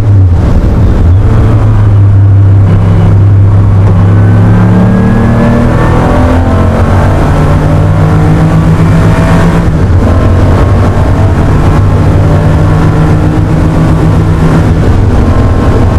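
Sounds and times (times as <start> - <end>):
car engine running loud: 0.0 - 15.9.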